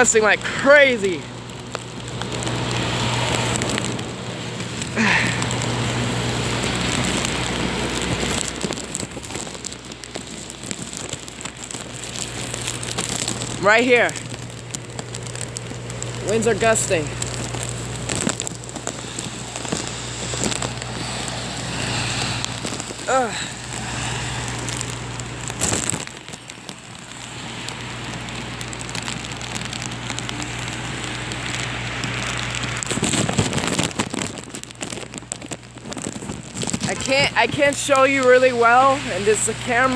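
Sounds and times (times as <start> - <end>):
heavy rain splattering: 0.0 - 39.9
low steady hum: 0.0 - 39.9.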